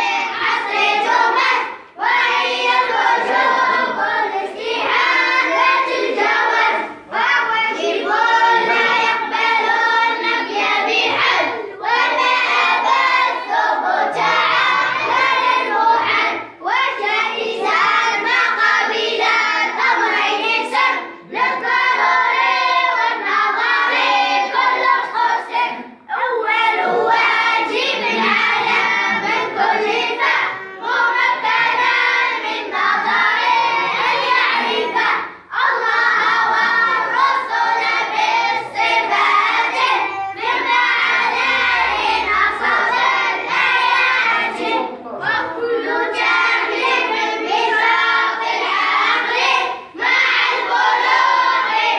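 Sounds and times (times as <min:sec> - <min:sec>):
children chanting in unison: 0:00.0 - 0:51.9.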